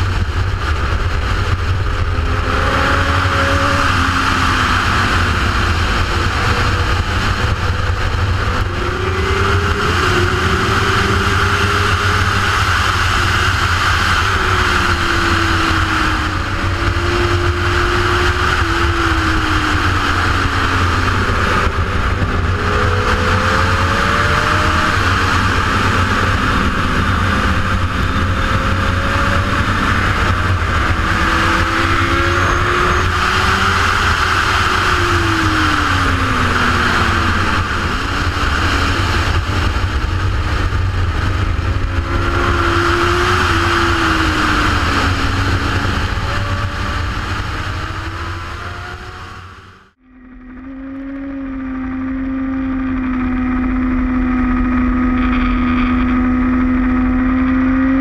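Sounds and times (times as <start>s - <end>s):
motorcycle engine: 0.0s - 58.0s
rushing wind noise: 0.0s - 58.0s.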